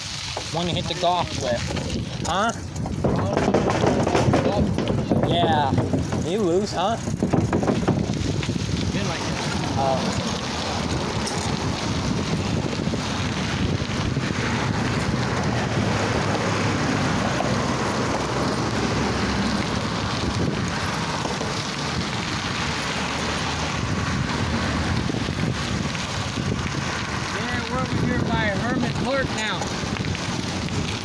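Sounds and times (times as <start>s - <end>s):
bicycle tyres on dirt path: 0.0s - 31.0s
wind buffeting microphone: 0.4s - 31.0s.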